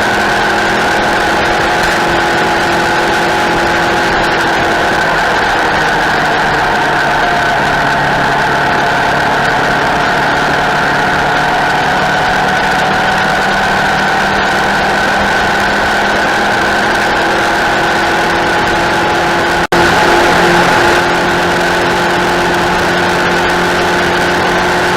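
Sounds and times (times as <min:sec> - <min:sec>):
race motorcycle engine: 0:00.0 - 0:24.9.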